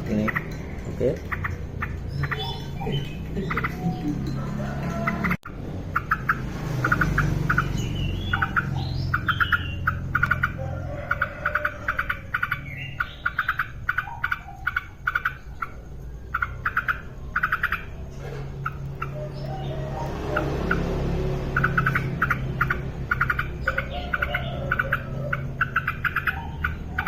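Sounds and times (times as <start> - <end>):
bird chattering song: 0.0 - 27.0.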